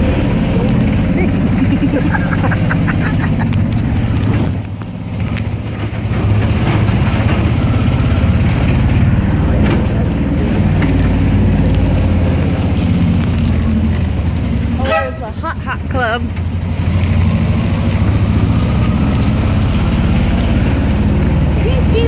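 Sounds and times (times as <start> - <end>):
small taxi engine running: 0.0 - 22.0
traffic and road noise: 0.0 - 22.0.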